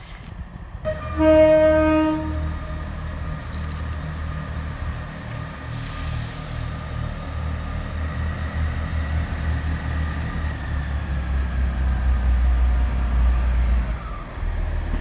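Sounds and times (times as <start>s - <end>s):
diesel train engine rumbling: 0.0s - 15.0s.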